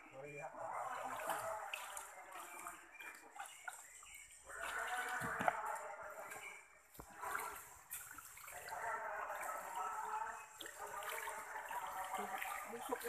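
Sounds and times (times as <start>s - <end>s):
river water sloshing and trickling: 0.0s - 13.0s.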